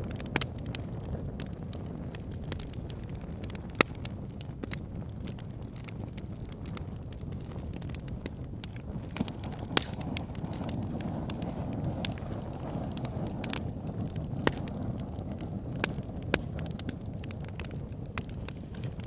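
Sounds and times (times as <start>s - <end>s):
burning logs popping: 0.0s - 19.0s
fireplace flames rushing: 0.0s - 19.0s.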